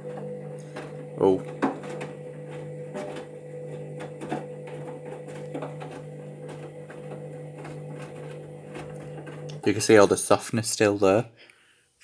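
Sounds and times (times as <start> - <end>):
water running in: 0.0 - 10.1
washing machine humming: 0.0 - 10.3.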